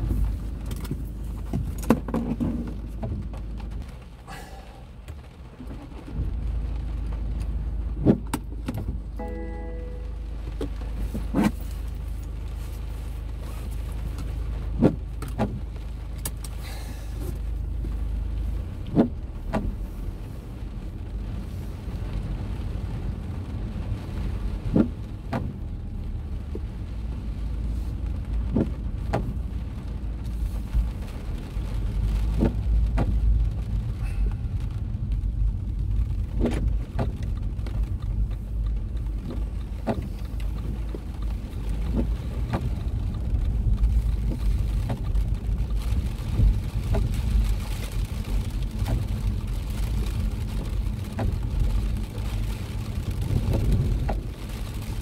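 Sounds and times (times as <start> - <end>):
car engine and tyres rumbling: 0.0 - 55.0
heavy rain: 0.0 - 55.0.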